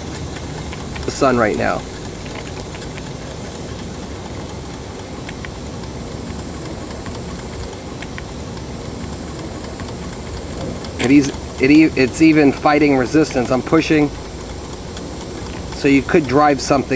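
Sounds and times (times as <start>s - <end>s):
steam hissing: 0.0s - 16.9s.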